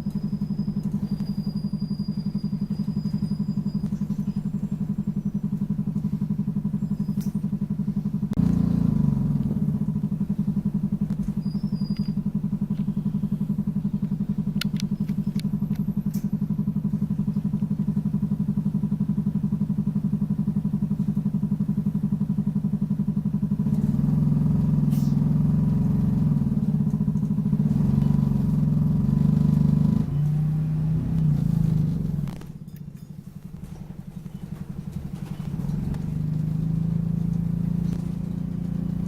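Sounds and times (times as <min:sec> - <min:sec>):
bus diesel engine humming: 0:00.0 - 0:39.0.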